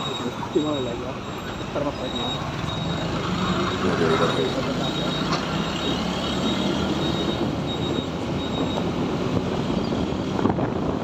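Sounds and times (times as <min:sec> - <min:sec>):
surrounding traffic: 0:00.0 - 0:11.0.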